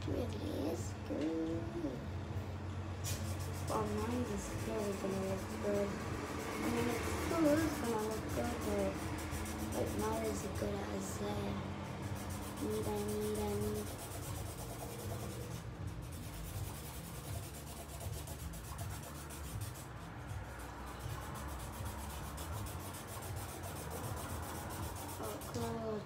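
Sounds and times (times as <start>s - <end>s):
marker rubbing on paper: 3.1s - 26.0s.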